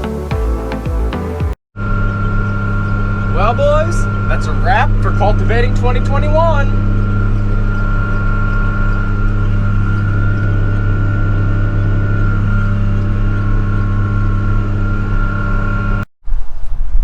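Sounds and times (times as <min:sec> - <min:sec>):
high whine: 0:00.0 - 0:16.1
tractor engine under load: 0:01.8 - 0:16.0.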